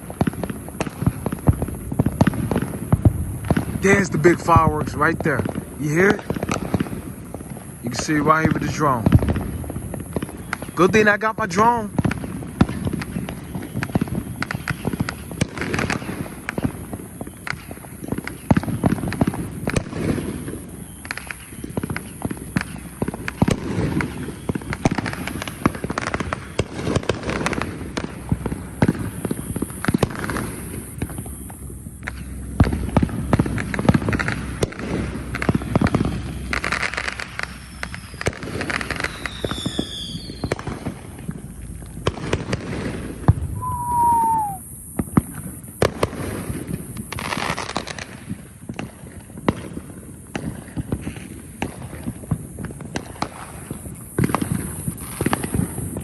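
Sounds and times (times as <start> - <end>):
fireworks whistles falling in pitch: 0.0 - 48.0
fireworks bangs and crackling: 0.0 - 56.0.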